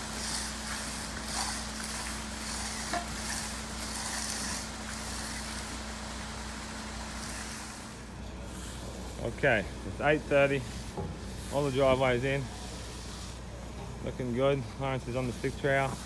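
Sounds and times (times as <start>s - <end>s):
steel edger scraping concrete: 0.0s - 13.5s, 14.1s - 16.0s
truck engine humming: 0.0s - 15.8s.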